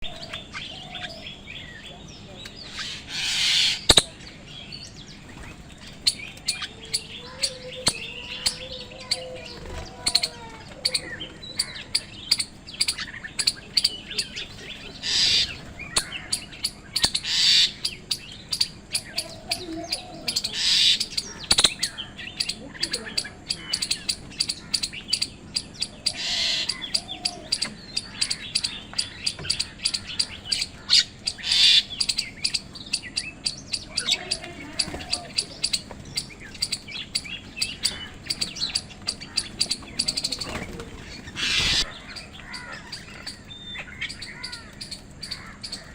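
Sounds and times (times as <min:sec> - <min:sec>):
mynas chirping and squabbling: 0:00.0 - 0:01.9, 0:02.6 - 0:04.4, 0:05.1 - 0:45.9
crows cawing: 0:02.7 - 0:04.1, 0:06.1 - 0:45.9.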